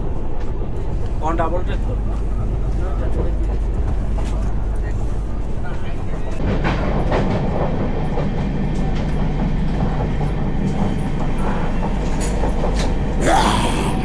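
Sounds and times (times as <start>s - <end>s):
train rumbling on rails: 0.0s - 13.9s.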